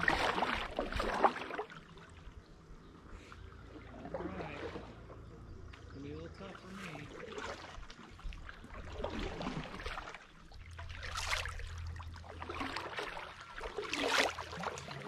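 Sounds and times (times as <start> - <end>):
paddle splashing in water: 0.0 - 2.3, 3.2 - 15.0.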